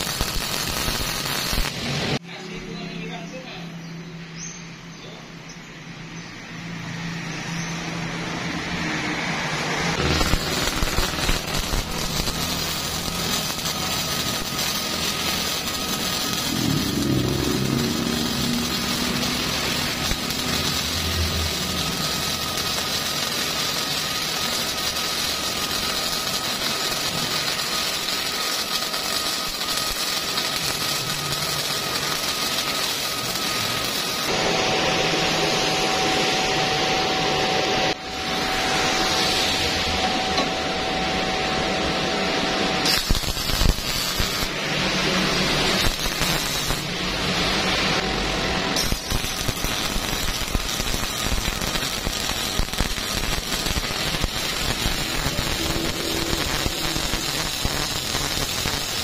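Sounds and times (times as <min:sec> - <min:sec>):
welding arc sizzling: 0:00.0 - 0:02.2, 0:06.5 - 0:59.0.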